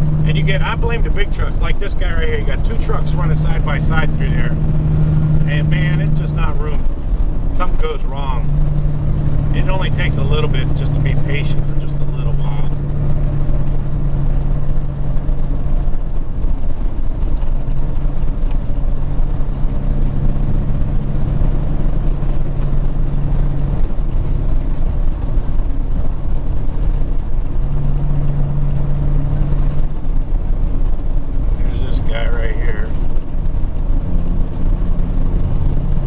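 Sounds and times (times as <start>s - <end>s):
diesel engine drone: 0.0s - 36.0s
low road rumble: 0.0s - 36.0s.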